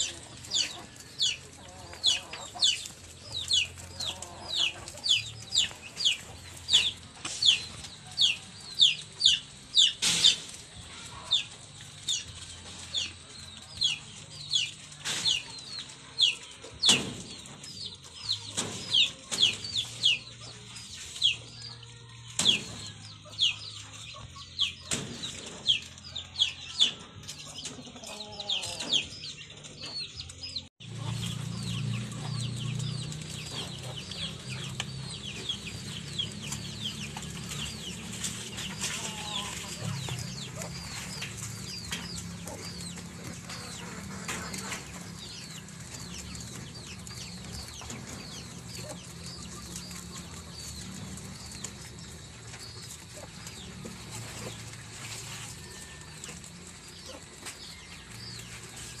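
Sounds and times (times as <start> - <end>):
rabbits rustling and knocking: 0.0 - 59.0.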